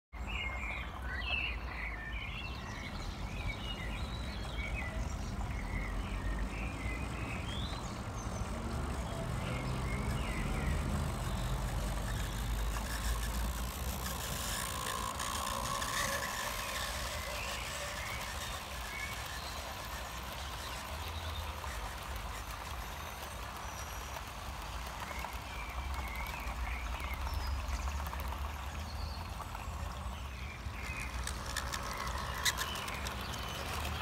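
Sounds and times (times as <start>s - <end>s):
birds chirping: 0.2s - 34.0s
model train low rumble: 0.2s - 34.0s
wheels rattling on track: 0.2s - 34.0s.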